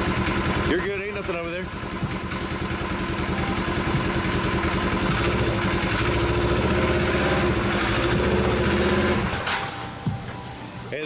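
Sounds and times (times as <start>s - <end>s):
engine idling hum: 0.0s - 9.4s.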